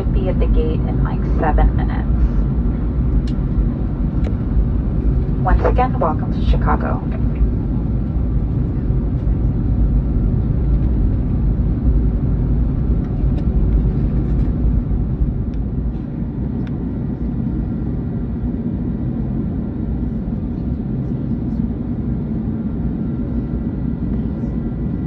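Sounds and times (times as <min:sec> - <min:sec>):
low rumble of idling jet engines: 0:00.0 - 0:25.0.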